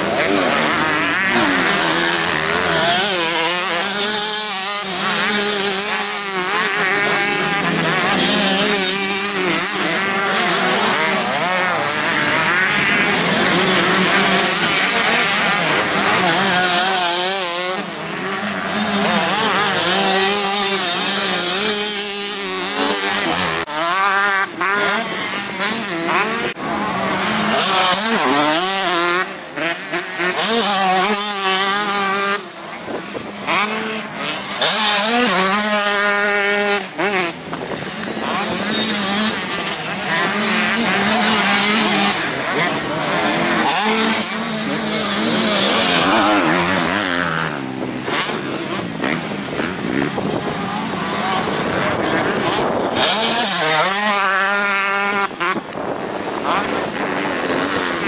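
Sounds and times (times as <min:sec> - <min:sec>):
motocross engines revving: 0:00.0 - 0:58.0.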